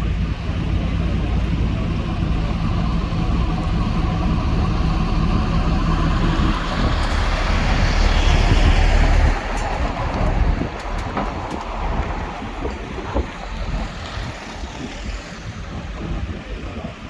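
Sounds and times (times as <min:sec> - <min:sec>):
diesel engine rumbling: 0:00.0 - 0:17.0
tyre road noise: 0:00.0 - 0:17.0.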